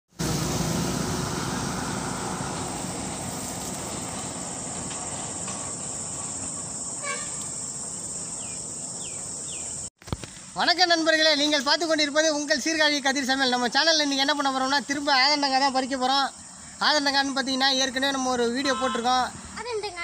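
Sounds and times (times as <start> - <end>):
high-pitched insect chorus: 1.4 - 20.0.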